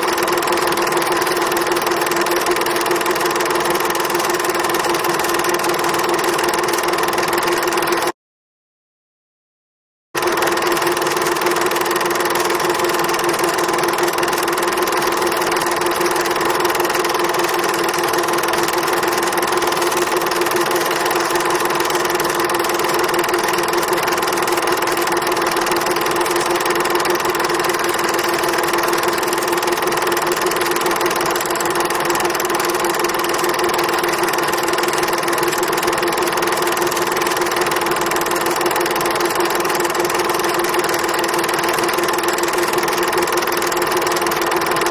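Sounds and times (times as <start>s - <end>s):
machine drone with rattle: 0.0s - 8.1s, 10.2s - 44.9s.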